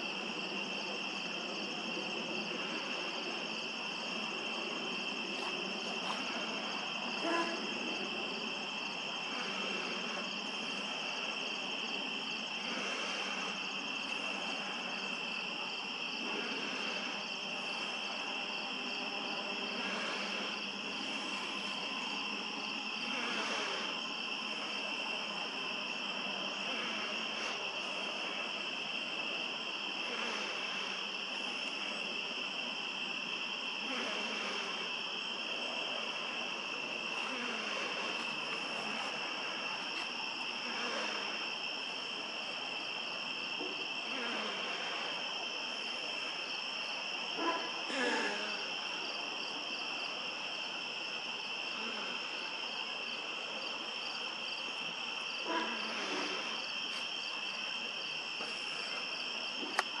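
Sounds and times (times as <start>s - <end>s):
crickets trilling: 0.0s - 60.0s
high insect chirp: 0.0s - 60.0s.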